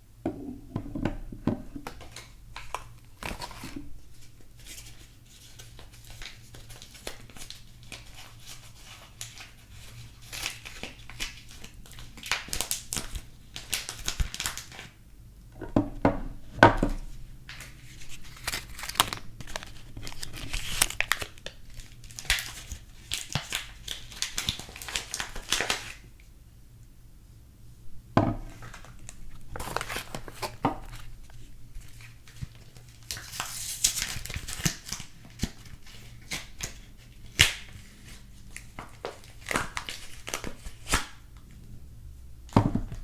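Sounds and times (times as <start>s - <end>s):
wrapper crinkling and tearing: 1.8s - 15.0s, 17.5s - 26.0s, 28.5s - 41.3s.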